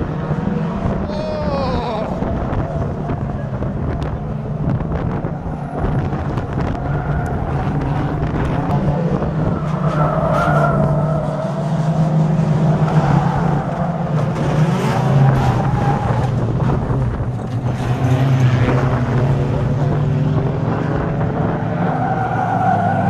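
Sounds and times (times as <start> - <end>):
racing car engines revving: 0.0 - 23.0.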